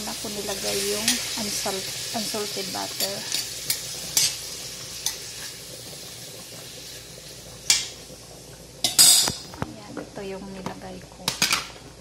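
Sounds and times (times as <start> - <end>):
shrimp sizzling in butter: 0.0 - 9.6.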